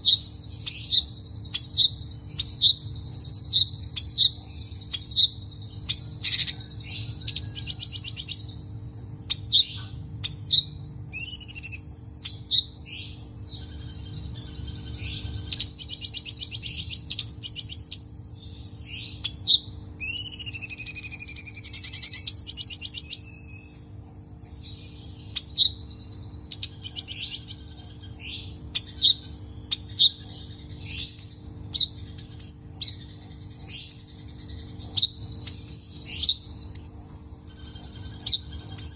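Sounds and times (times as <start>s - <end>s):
songbird singing rapid trills: 0.0s - 23.9s, 24.5s - 38.9s
steady low hum: 0.0s - 38.9s.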